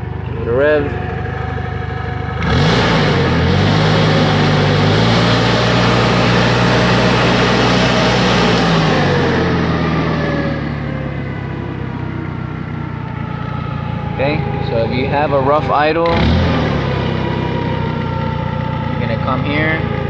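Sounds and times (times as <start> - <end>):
forklift engine revving: 0.0 - 20.0.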